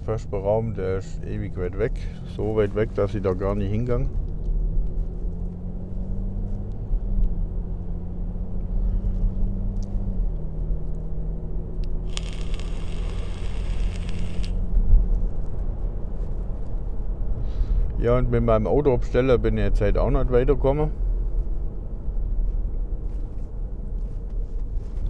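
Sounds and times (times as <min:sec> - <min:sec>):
car engine rumble: 0:00.0 - 0:25.0
road noise: 0:00.0 - 0:25.0.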